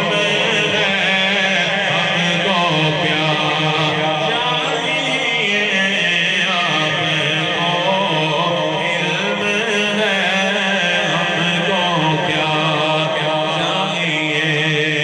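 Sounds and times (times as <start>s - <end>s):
man chanting devotional poem: 0.0s - 15.0s.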